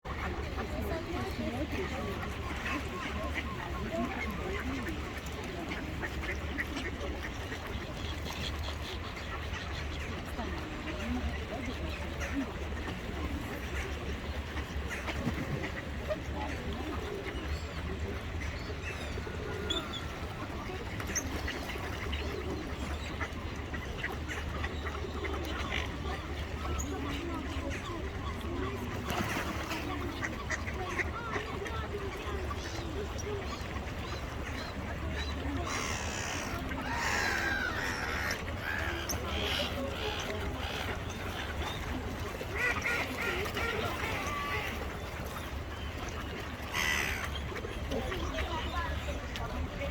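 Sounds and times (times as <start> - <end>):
ducks and waterbirds calling: 0.1 - 49.9.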